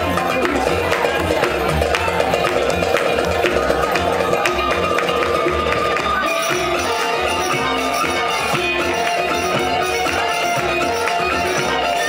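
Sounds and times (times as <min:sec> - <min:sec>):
live band playing dance tune: 0:00.0 - 0:12.0
plucked string melody: 0:00.0 - 0:12.0.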